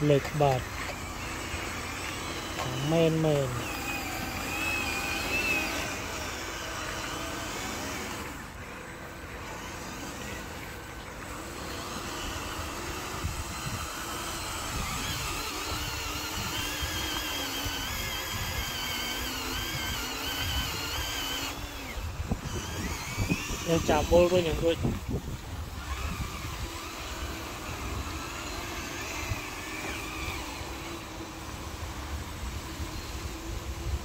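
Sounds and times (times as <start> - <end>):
small electric motors whining: 0.0 - 34.0.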